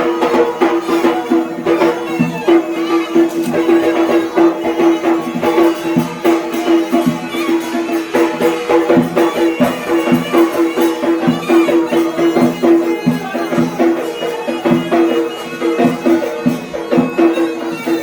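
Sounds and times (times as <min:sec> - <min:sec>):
double-pipe reed melody: 0:00.0 - 0:18.0
drum strokes: 0:00.0 - 0:18.0.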